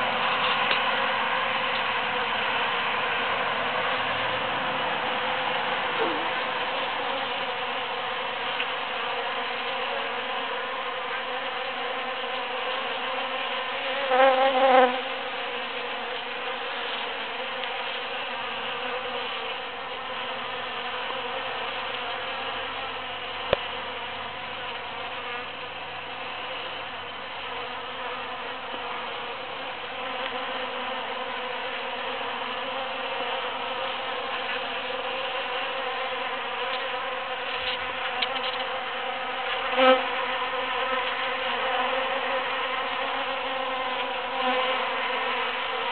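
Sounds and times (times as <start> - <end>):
honeybees buzzing: 0.0 - 45.9.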